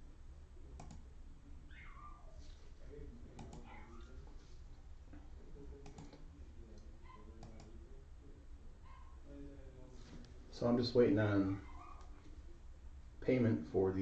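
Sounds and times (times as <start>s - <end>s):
faint low murmur: 0.0s - 14.0s.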